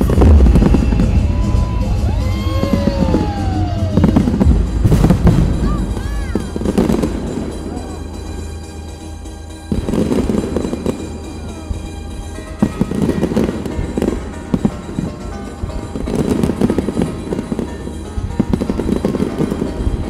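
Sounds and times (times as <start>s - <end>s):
fireworks banging and crackling: 0.0s - 20.0s
music playing: 0.0s - 20.0s.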